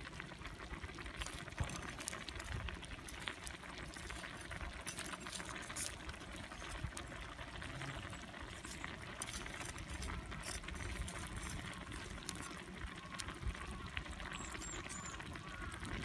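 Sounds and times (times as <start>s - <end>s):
campfire pops and crackles: 0.0s - 16.0s
pot bubbling over a campfire: 0.0s - 16.0s.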